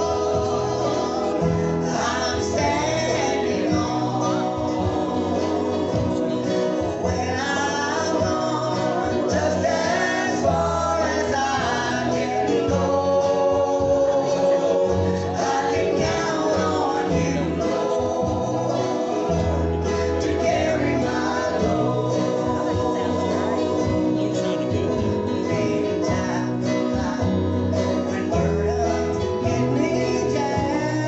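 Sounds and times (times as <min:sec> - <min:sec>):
guitar and bass: 0:00.0 - 0:31.0
voices singing in harmony: 0:00.0 - 0:31.0.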